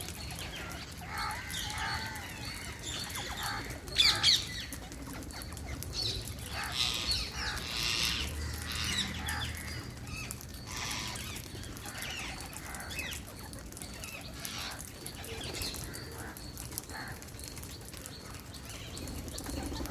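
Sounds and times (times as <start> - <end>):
parrots chirping and screeching: 0.0 - 19.9.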